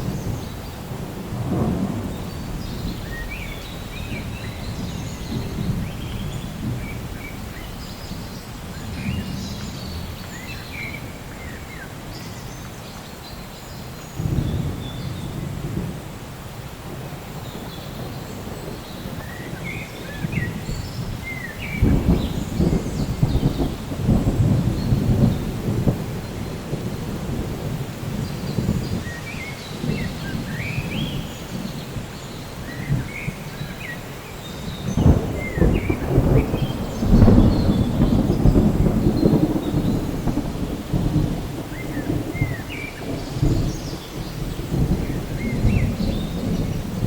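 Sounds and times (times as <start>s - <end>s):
loud thunder peals: 0.0s - 11.6s, 16.9s - 31.9s, 34.6s - 47.0s
thunder rumbling: 0.0s - 12.5s, 14.1s - 47.0s
light rain hiss: 0.0s - 47.0s.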